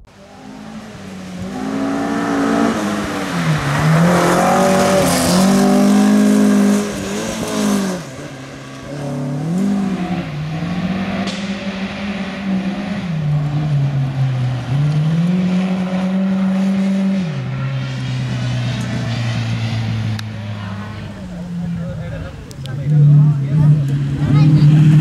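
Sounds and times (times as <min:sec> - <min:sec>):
rally car engine with gear changes: 0:00.0 - 0:25.0.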